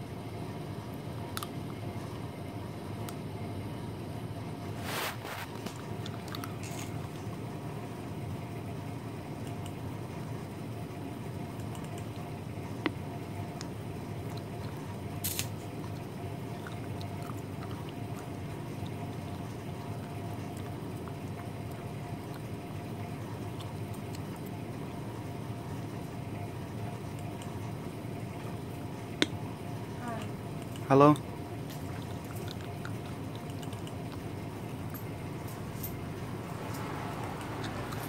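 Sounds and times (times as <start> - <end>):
room hum and hiss: 0.0 - 38.0.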